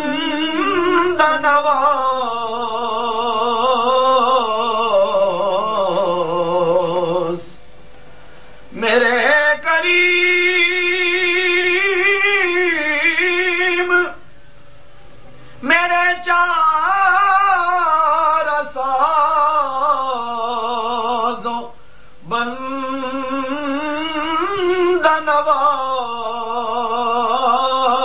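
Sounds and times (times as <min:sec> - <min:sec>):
man singing unaccompanied: 0:00.0 - 0:07.7, 0:08.7 - 0:14.4, 0:15.6 - 0:28.0.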